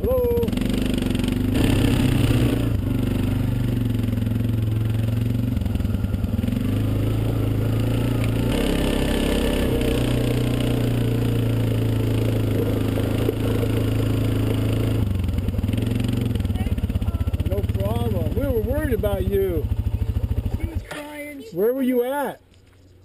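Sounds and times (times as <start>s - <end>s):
quad engine revving: 0.0s - 21.0s.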